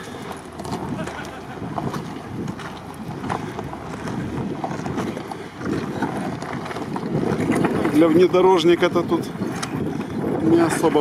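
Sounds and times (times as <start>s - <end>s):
rocks crunching under tyres: 0.0s - 11.0s
vehicle engine low rumble: 0.0s - 11.0s.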